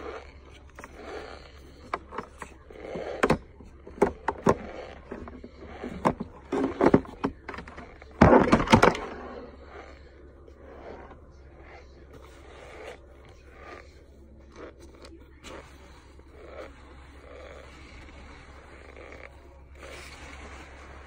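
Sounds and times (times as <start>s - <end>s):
chewing and crunching starch: 0.0s - 21.0s.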